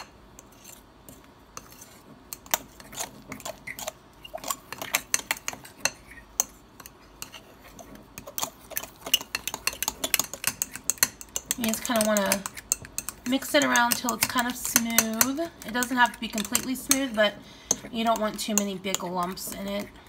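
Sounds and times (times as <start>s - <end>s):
metal utensil scraping ceramic bowl: 1.6s - 20.0s.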